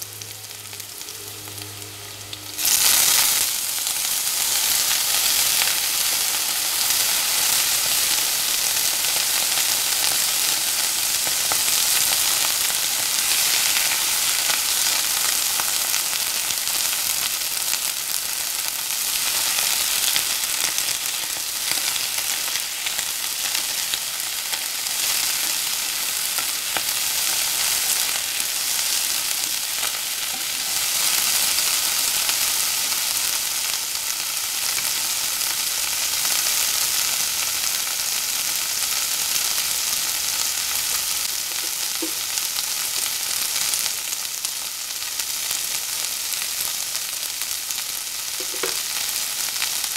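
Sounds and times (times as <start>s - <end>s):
food sizzling in hot oil: 0.0s - 49.9s.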